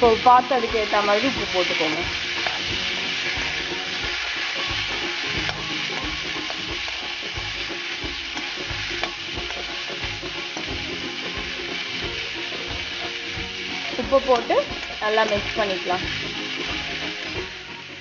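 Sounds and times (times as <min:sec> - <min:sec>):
metal spatula scraping pan: 0:00.0 - 0:17.5
chickpeas sizzling in oil: 0:00.0 - 0:18.0.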